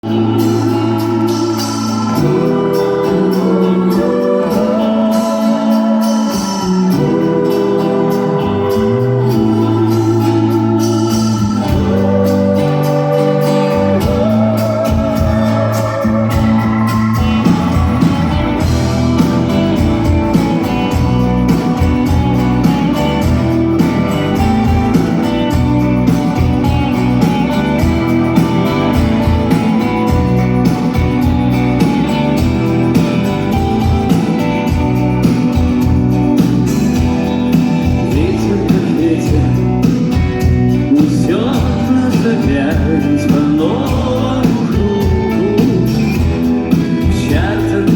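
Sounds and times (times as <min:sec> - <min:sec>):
rock band playing live: 0:00.0 - 0:47.9
steady drum beat: 0:00.0 - 0:47.9.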